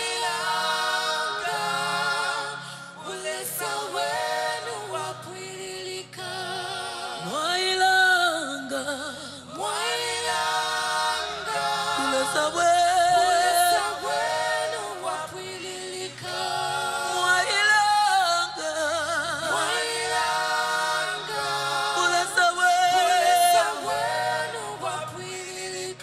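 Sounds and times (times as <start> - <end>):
gospel group singing: 0.0 - 26.0.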